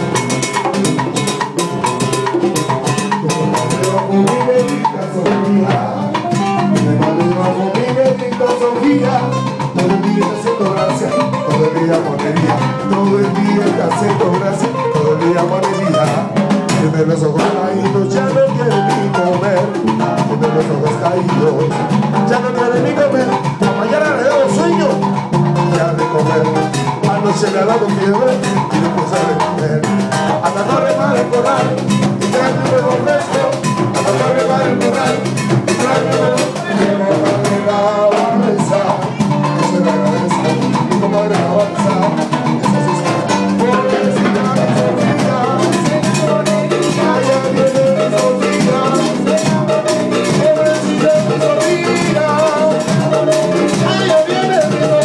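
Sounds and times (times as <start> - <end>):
electric bass: 0.0 - 55.0
live band playing: 0.0 - 55.0
percussion: 0.0 - 55.0
man singing through microphone: 2.9 - 55.0.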